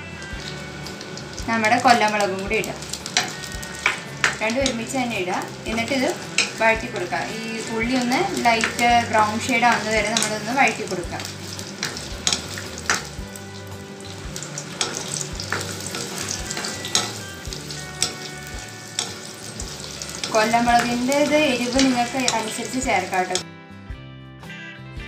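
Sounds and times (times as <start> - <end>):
onions sizzling in hot oil: 0.0 - 23.4
spatula scraping and tapping pan: 2.7 - 23.4.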